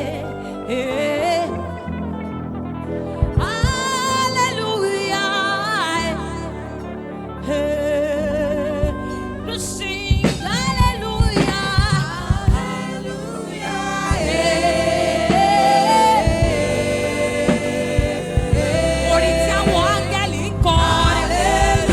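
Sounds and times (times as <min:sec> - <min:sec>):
gospel singing with vibrato: 0:00.0 - 0:21.9
sustained keyboard chords: 0:00.0 - 0:21.9.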